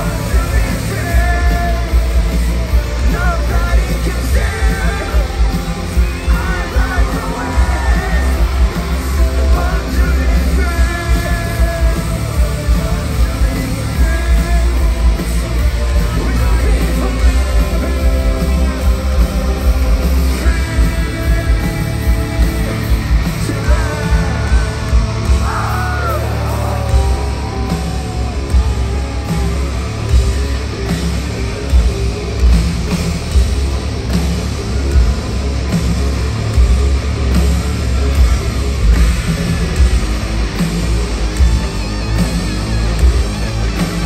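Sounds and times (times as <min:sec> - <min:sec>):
heavy rock band playing: 0:00.0 - 0:44.0.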